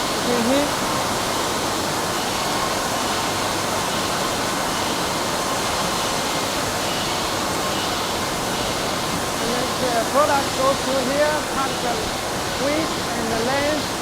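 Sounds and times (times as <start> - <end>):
cutting machines running: 0.0 - 14.0.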